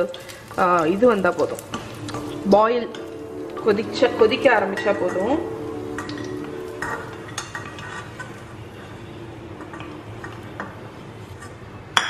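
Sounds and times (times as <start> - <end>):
faint sizzle of hot oil: 0.0 - 12.0
wooden spoon scraping steel pan: 0.2 - 11.6.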